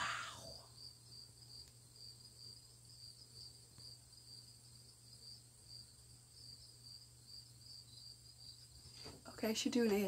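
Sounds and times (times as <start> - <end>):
insect chirping trill: 0.0 - 10.0.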